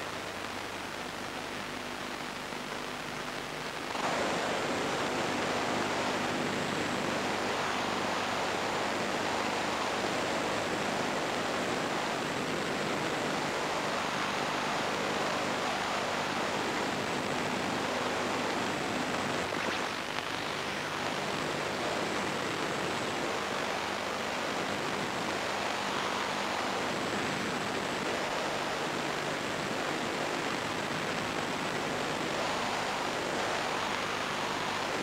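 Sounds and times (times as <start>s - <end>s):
steady static hiss: 0.0s - 35.0s.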